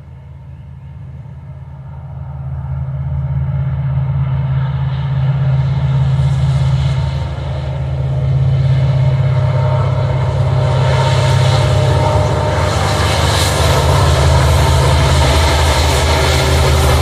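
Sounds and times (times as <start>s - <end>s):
diesel locomotive engine rumble: 0.0s - 17.0s
train wheel and rail noise: 0.0s - 17.0s.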